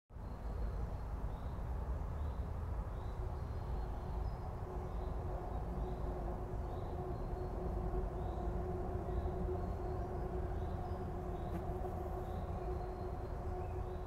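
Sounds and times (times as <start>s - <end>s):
low rumble of wind: 0.1s - 14.0s
faint distant hum: 0.2s - 14.0s.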